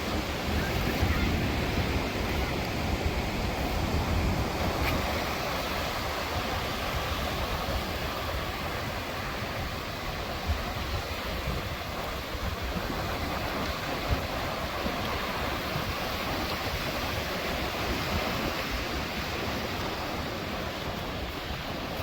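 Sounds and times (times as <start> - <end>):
waves washing ashore: 0.0 - 22.0
wind rumble on microphone: 0.0 - 22.0.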